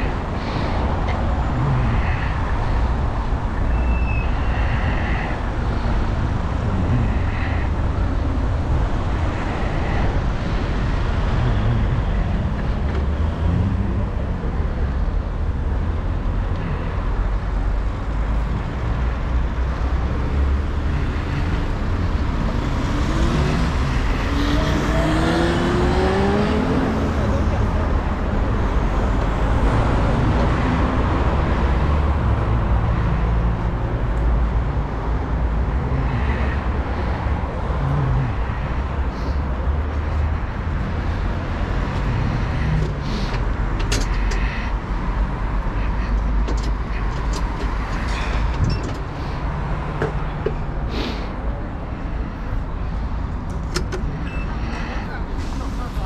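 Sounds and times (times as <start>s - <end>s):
city traffic noise: 0.0s - 56.0s.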